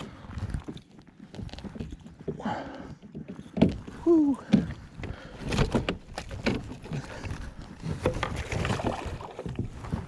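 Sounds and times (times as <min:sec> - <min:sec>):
hands handling fish and gear: 0:00.0 - 0:10.0.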